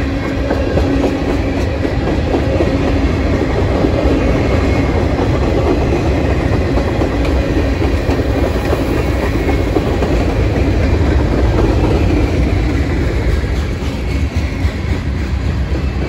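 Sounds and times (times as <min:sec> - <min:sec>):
steel wheels rumbling on rails: 0:00.0 - 0:16.0.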